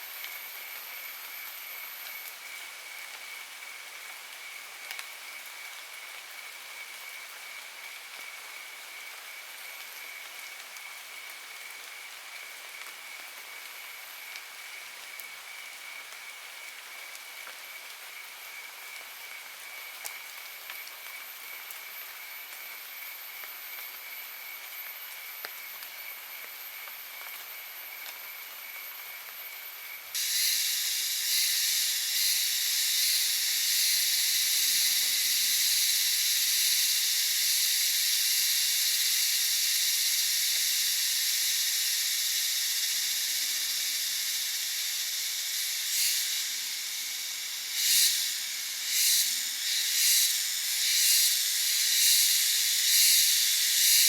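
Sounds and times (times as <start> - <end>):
high-pitched buzzing hiss: 0.0 - 54.0
shrill insect chorus: 0.3 - 54.0.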